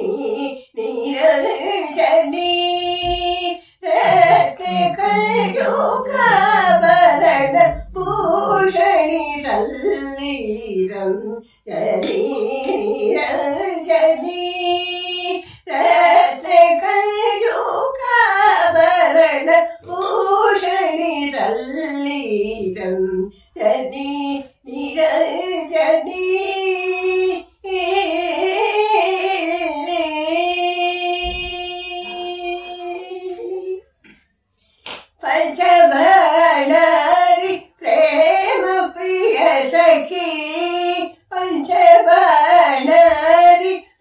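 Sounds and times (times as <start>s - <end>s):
elderly woman singing: 0.0s - 34.0s, 35.2s - 44.0s.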